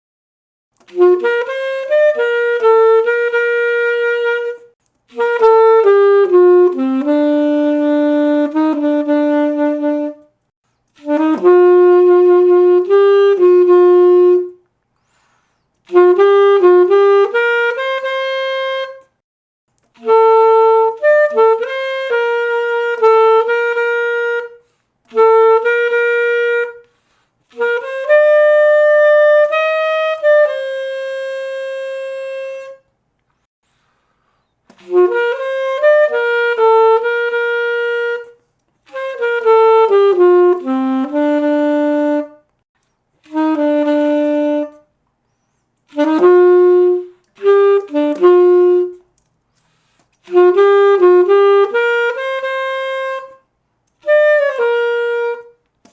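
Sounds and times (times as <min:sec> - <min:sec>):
solo alto saxophone: 0:00.8 - 0:19.2, 0:19.8 - 0:42.6, 0:43.2 - 0:55.9.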